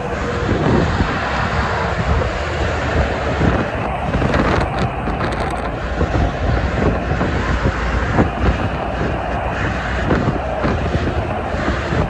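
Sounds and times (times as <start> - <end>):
heavy freeway traffic roar: 0.0 - 12.0
wind buffeting the microphone: 0.0 - 12.0.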